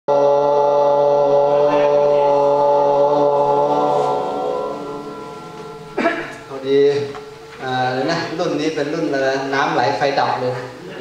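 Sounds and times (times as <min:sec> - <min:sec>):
low chanted note: 0:00.1 - 0:10.2.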